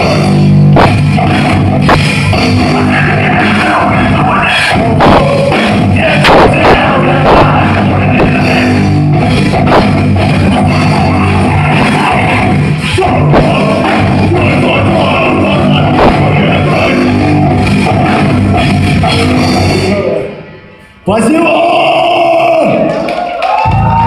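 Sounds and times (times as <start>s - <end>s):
bass guitar: 0.0s - 20.6s, 23.5s - 24.0s
heavy distorted guitars: 0.0s - 22.9s
drums: 0.0s - 24.0s.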